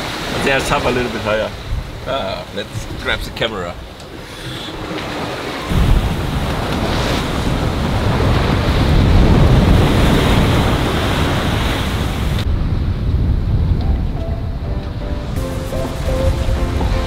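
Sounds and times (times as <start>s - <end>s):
ocean waves breaking: 0.0s - 17.0s
wind buffeting microphone: 1.5s - 15.4s.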